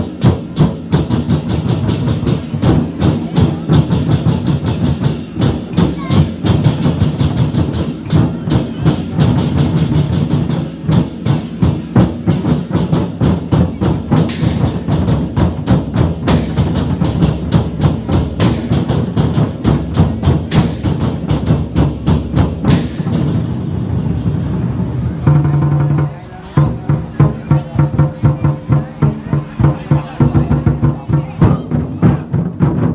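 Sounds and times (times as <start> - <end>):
drums beaten fast: 0.0 - 32.9.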